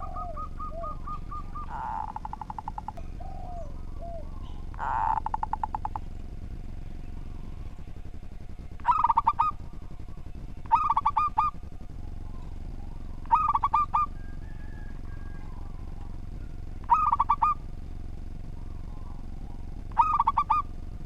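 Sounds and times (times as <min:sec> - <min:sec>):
dove cooing: 0:00.0 - 0:06.1, 0:08.7 - 0:20.9.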